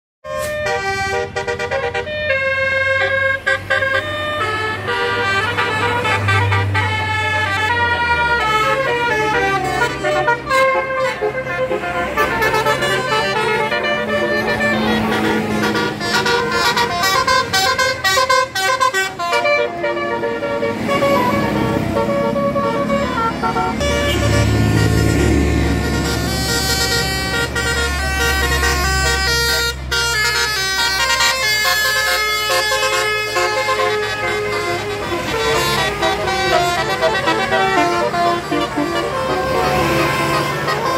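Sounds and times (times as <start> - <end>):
bus multi-tone horn playing a tune: 0.2 - 40.9
engine running low: 3.3 - 40.9.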